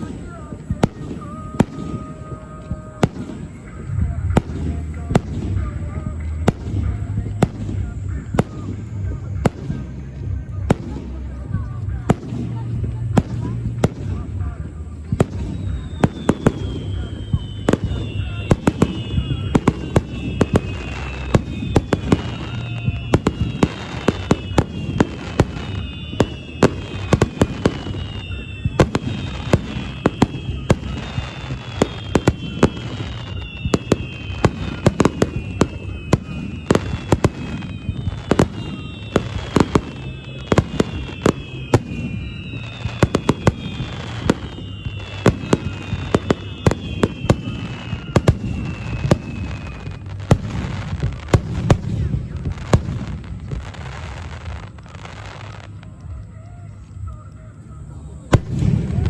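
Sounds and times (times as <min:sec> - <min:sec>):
fireworks bursting with bangs: 0:00.0 - 0:59.0
fireworks whistles falling in pitch: 0:00.0 - 0:59.0.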